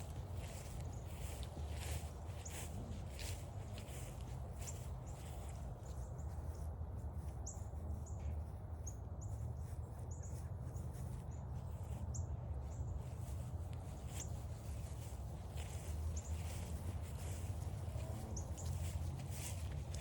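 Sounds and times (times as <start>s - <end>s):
footsteps on trail: 0.0s - 20.0s
small birds chirping: 0.0s - 20.0s.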